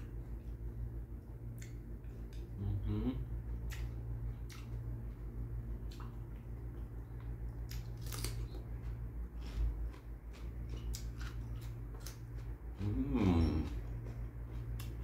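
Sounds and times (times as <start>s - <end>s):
chewing crisp grapes: 0.0s - 15.0s
steady low hum: 0.0s - 15.0s.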